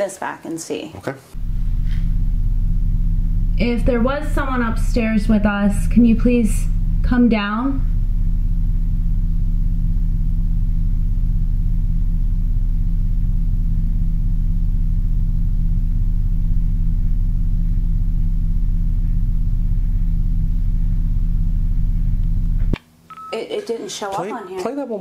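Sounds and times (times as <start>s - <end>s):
low hum with pitched lines: 1.3s - 23.4s.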